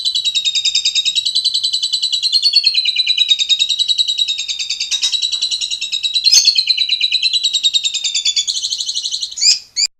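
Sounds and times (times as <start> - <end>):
starling trilling: 0.0 - 9.9.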